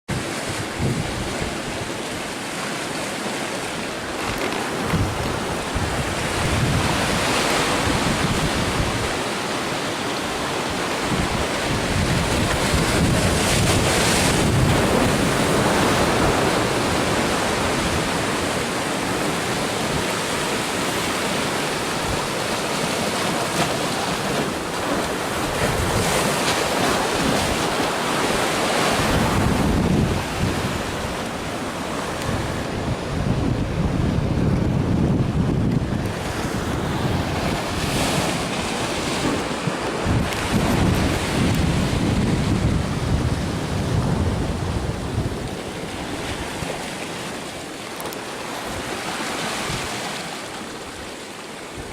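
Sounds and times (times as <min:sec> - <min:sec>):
wind buffeting microphone: 0:00.1 - 0:01.9, 0:04.0 - 0:09.3, 0:10.4 - 0:47.0
waves crashing on stones: 0:00.1 - 0:34.3, 0:35.4 - 0:51.9
rush of surf: 0:00.1 - 0:51.9.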